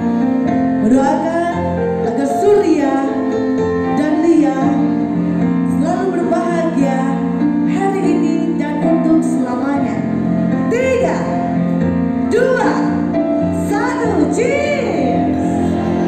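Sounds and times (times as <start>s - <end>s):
backing music with held chords: 0.0s - 16.0s.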